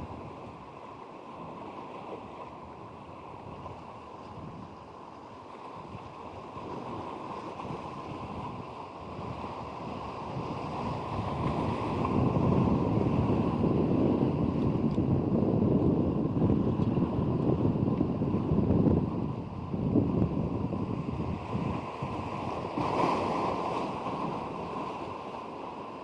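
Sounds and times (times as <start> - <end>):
wind buffeting microphone: 0.0 - 0.7, 2.2 - 5.0, 5.7 - 25.3
sea surf: 0.0 - 26.0.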